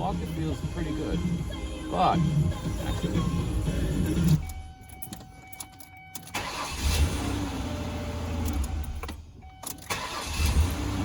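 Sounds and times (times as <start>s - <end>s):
car engine starting and running: 0.0s - 11.0s.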